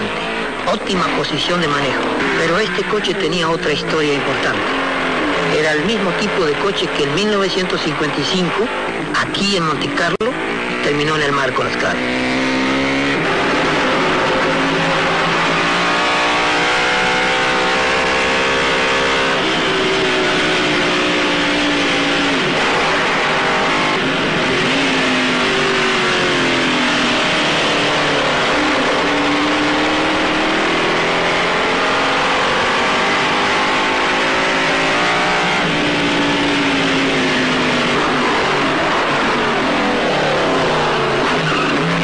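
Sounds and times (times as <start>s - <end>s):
racing car engine revving: 0.0s - 42.0s.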